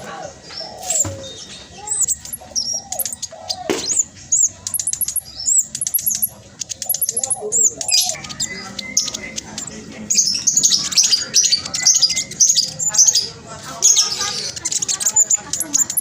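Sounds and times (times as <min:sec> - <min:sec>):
sunbird singing high chirps: 0:00.4 - 0:16.0.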